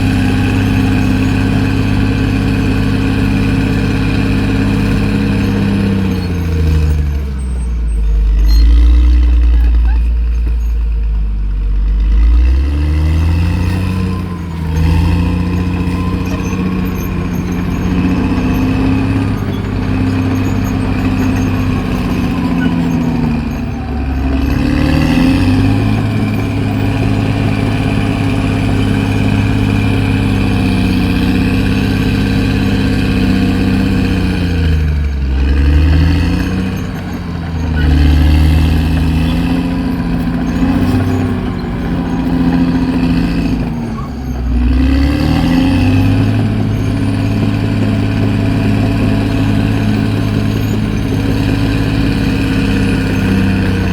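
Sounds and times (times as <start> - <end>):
bulldozer diesel engine running hard: 0.0 - 53.9.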